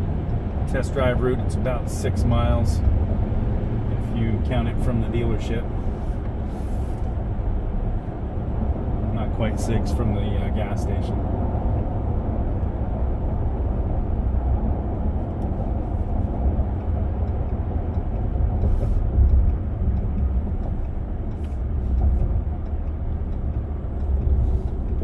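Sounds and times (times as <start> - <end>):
road and drivetrain rumble: 0.0 - 25.0.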